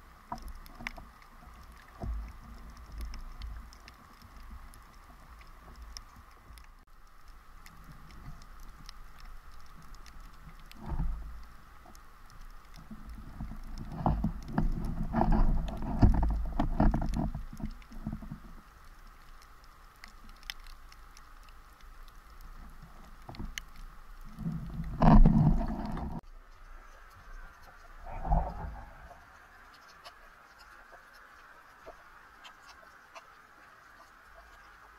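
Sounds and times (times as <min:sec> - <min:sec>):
rumbling swirls of water: 0:00.0 - 0:34.9
underwater clicks and crackling: 0:00.0 - 0:34.9.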